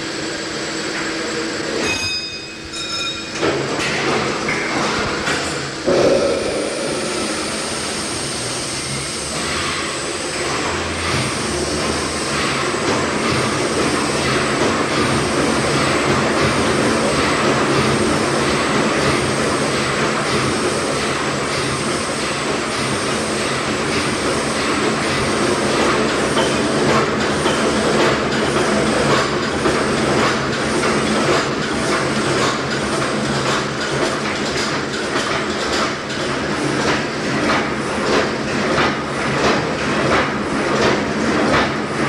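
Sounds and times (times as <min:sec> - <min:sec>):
steam winding engine beating: 0:05.8 - 0:42.0.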